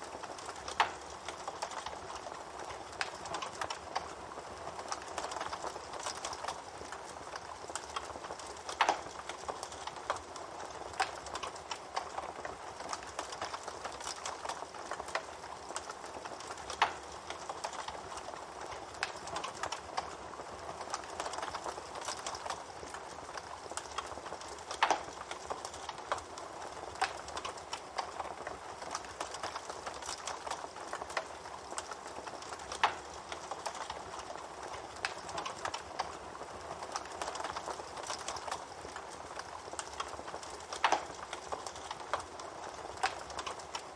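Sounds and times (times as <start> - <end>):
campfire crackling: 0.0 - 43.9.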